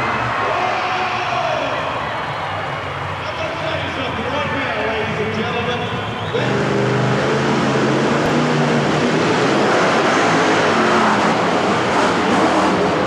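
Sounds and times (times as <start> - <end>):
monster truck engine running: 0.0 - 13.0.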